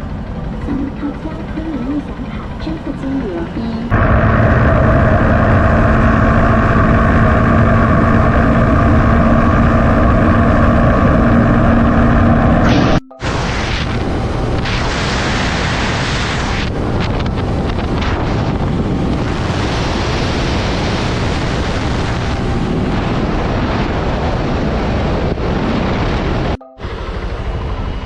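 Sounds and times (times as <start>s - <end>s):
wind rushing over microphone: 3.9s - 28.0s.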